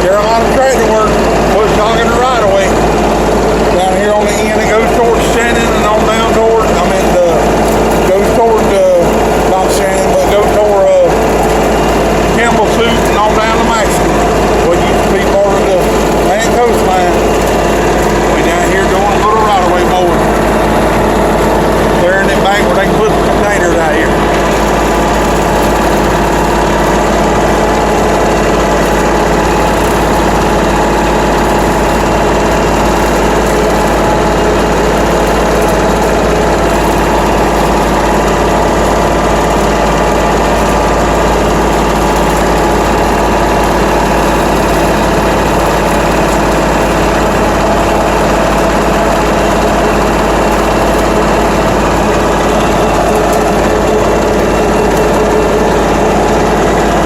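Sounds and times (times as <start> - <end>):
tractor engine mowing brush: 0.0 - 57.0.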